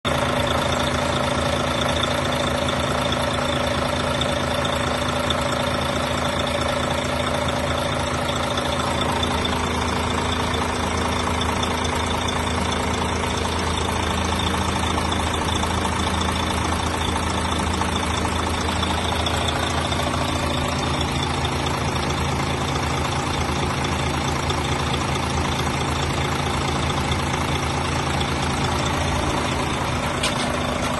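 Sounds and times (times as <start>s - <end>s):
diesel coach engine idling: 0.0s - 30.9s.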